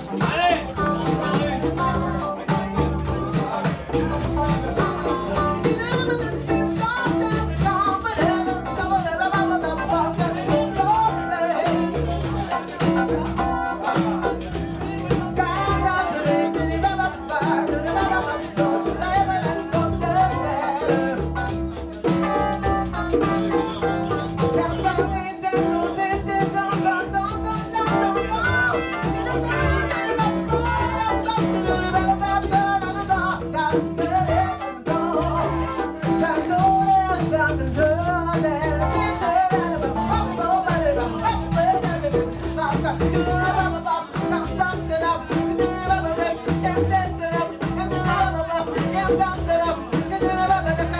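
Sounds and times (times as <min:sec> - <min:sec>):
bass line: 0:00.0 - 0:50.9
live band playing: 0:00.0 - 0:50.9.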